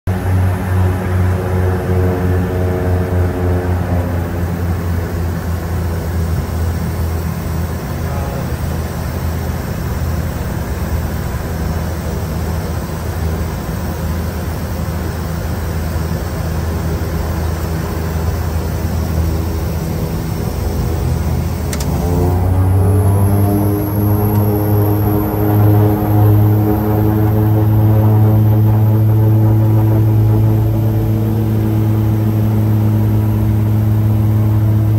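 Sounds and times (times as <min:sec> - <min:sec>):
turboprop engines humming: 0:00.1 - 0:34.9.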